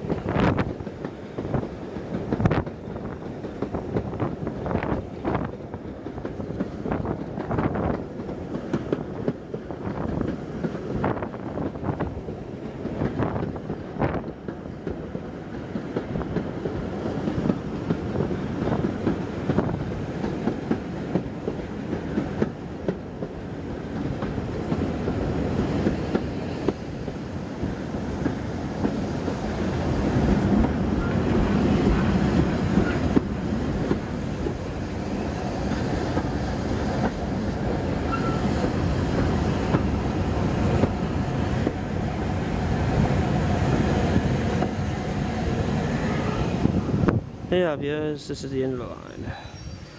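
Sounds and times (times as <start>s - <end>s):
train wheels clickety-clack: 0.0s - 47.2s
train rumble: 0.0s - 49.9s.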